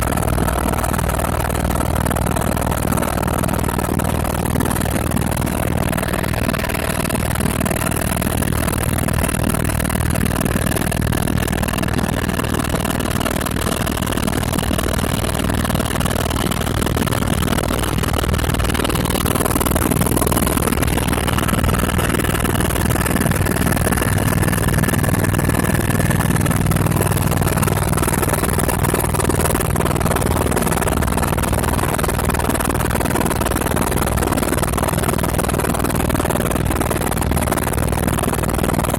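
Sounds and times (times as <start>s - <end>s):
high whine: 0.0s - 33.9s
helicopter engine and rotor drone: 0.0s - 38.9s.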